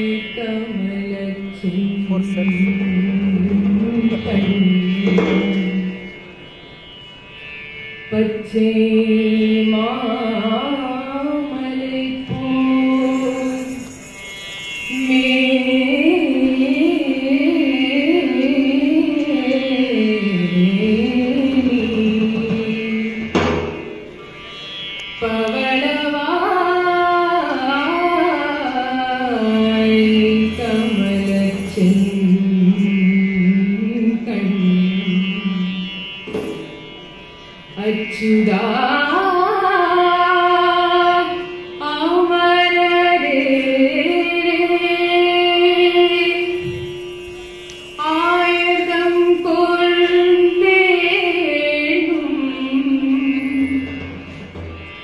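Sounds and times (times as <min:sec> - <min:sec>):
woman singing through microphone: 0:00.0 - 0:06.0, 0:08.1 - 0:14.0, 0:14.9 - 0:23.4, 0:25.2 - 0:35.8, 0:37.8 - 0:47.0, 0:47.9 - 0:54.3.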